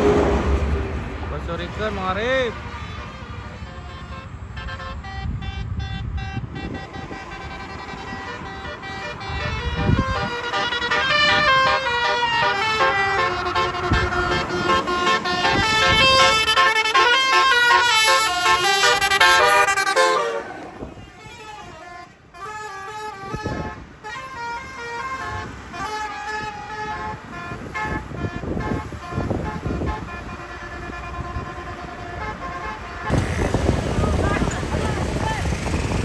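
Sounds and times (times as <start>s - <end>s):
musical air horn playing a tune: 3.0s - 34.4s.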